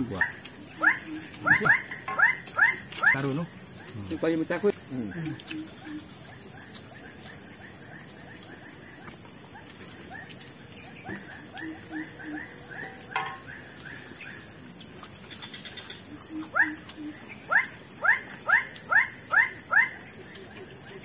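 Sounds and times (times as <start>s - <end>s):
high-pitched insect chorus: 0.0s - 21.0s
quick chirping calls: 0.0s - 21.0s.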